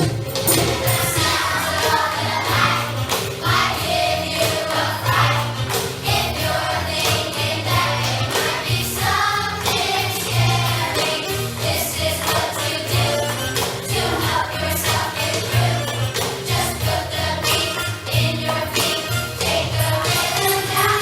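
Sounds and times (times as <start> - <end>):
choir singing: 0.0 - 21.0
instrumental accompaniment with bass: 0.0 - 21.0.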